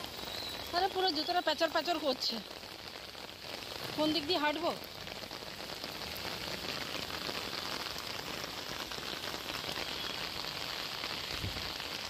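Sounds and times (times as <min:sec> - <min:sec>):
heavy rain on wet road: 0:00.0 - 0:12.0
rain on umbrella: 0:00.0 - 0:12.0.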